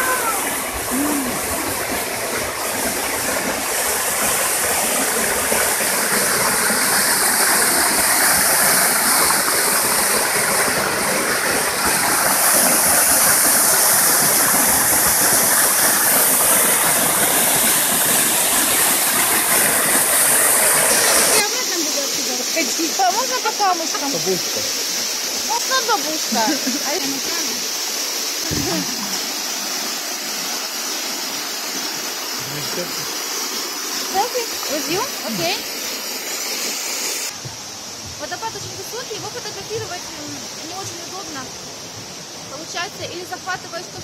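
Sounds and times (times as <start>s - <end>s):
rushing stream and waterfall: 0.0s - 44.0s.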